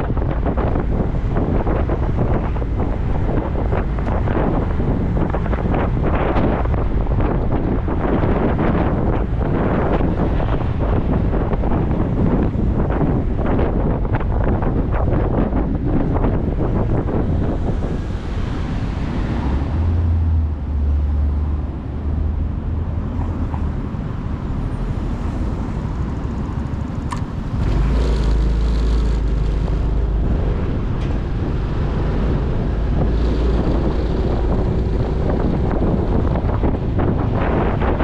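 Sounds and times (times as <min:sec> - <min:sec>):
road traffic: 0:00.0 - 0:38.0
wind noise on microphone: 0:00.0 - 0:38.0.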